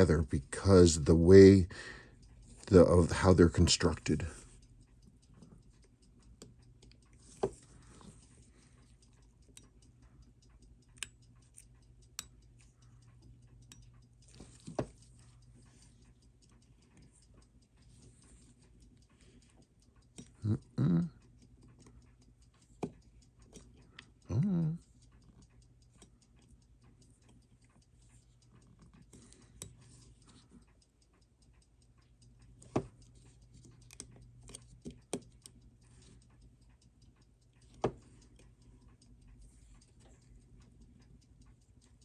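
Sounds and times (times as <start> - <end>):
metal tools clicking on watch: 0.0 - 42.0
steady low hum: 0.0 - 42.0.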